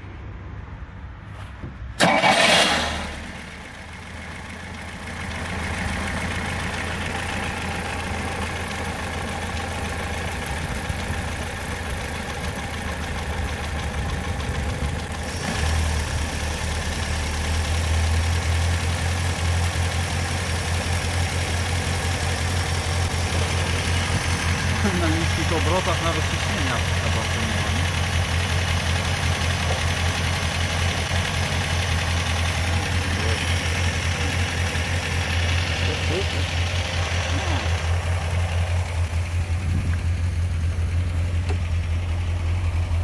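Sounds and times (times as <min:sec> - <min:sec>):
car engine idling: 0:00.6 - 0:43.0.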